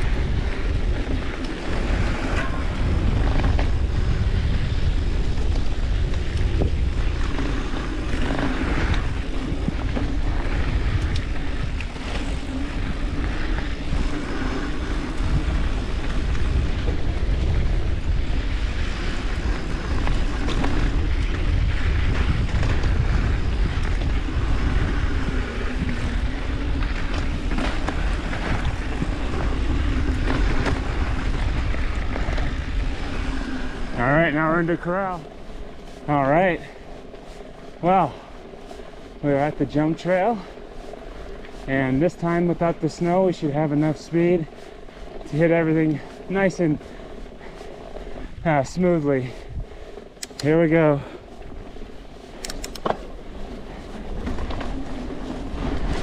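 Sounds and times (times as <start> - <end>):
bike tyres rolling on dirt: 0.0 - 56.0
wind over microphone: 0.0 - 56.0.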